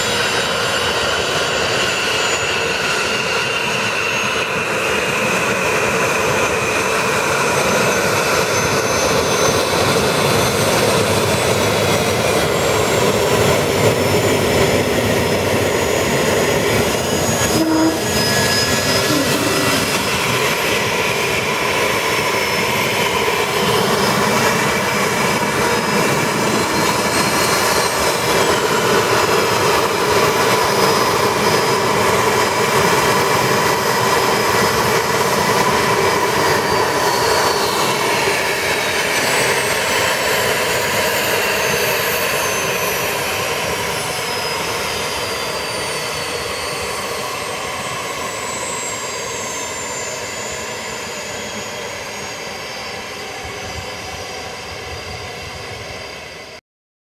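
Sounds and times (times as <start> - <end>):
jet engines whining: 0.0 - 56.6
whining tones sliding down: 6.1 - 56.6.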